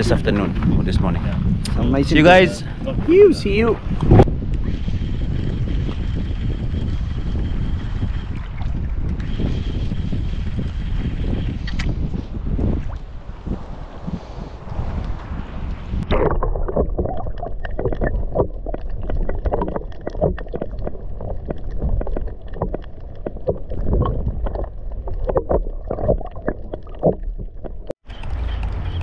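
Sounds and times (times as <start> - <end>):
muffled water splashing: 0.0 - 29.0.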